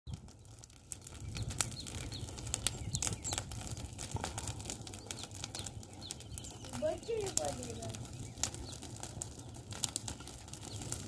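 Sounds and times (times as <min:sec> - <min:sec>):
dry grass burning and crackling: 0:00.1 - 0:11.0.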